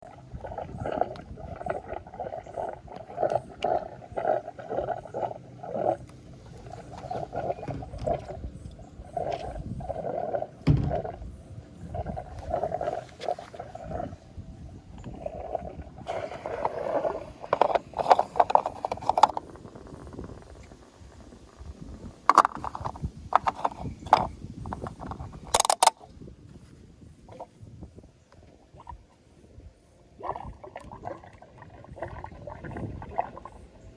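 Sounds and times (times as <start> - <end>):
gas tank gurgling: 0.0 - 26.0, 30.1 - 33.9.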